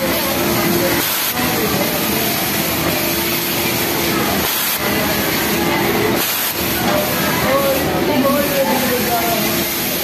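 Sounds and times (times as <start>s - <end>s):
factory machinery hiss: 0.0s - 10.0s
sewing machine humming: 0.0s - 10.0s.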